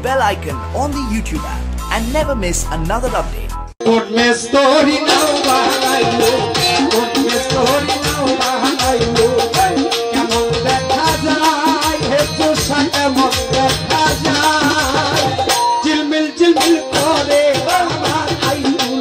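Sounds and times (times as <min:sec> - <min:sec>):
percussion steady beat: 0:00.0 - 0:19.0.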